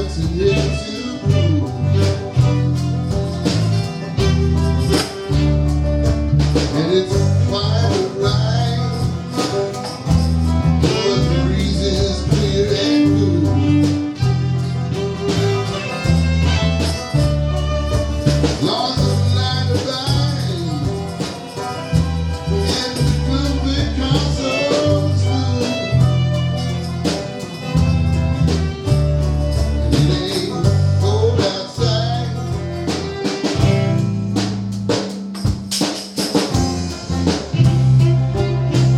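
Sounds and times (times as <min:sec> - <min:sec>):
stepping bass line: 0:00.0 - 0:35.0, 0:36.5 - 0:38.9
country band playing: 0:00.0 - 0:38.9
lead guitar: 0:00.0 - 0:38.9.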